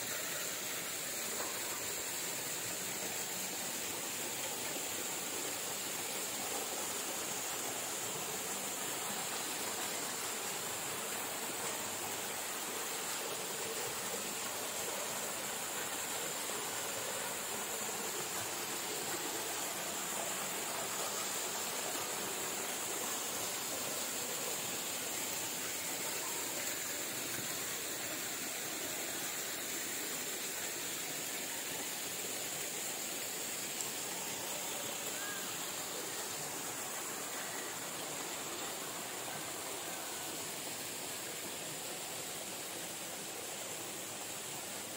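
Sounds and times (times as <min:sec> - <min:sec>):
small waterfall splashing: 0:00.0 - 0:44.9.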